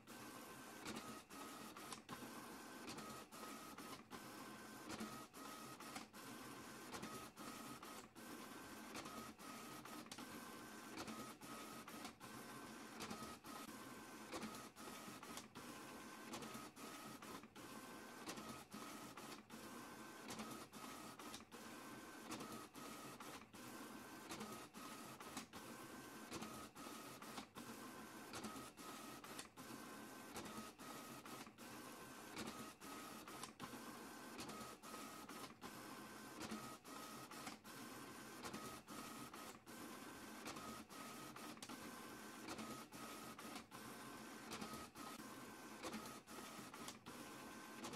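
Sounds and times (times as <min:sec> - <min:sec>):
printer motor whine: 0:00.1 - 0:47.9.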